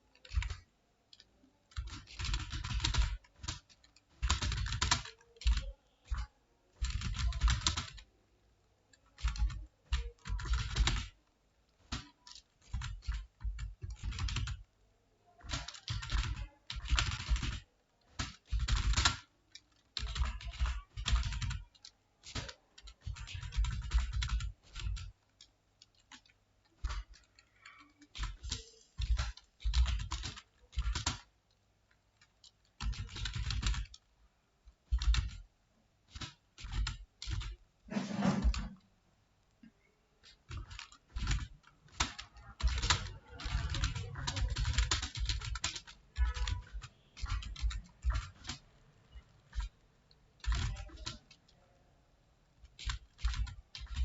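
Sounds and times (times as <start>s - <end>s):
computer keyboard typing: 0.0s - 8.2s, 8.8s - 38.8s, 40.2s - 51.8s, 52.4s - 54.0s.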